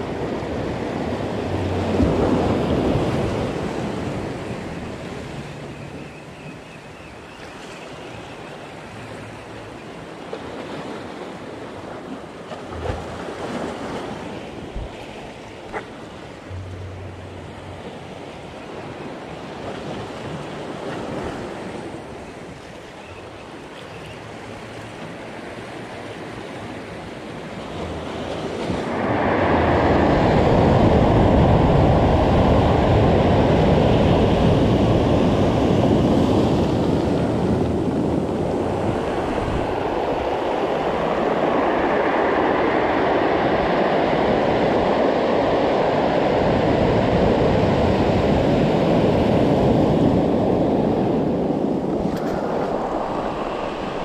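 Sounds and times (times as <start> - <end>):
waves crashing: 0.0 - 54.0.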